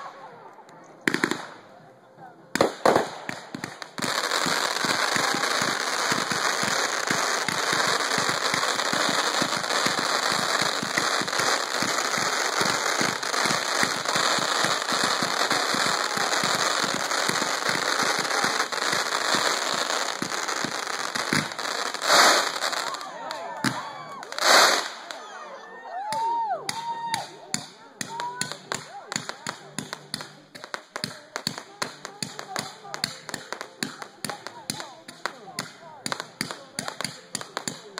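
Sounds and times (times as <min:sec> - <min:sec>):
fireworks pops and bangs: 0:00.6 - 0:01.6, 0:02.5 - 0:25.2, 0:26.1 - 0:37.9.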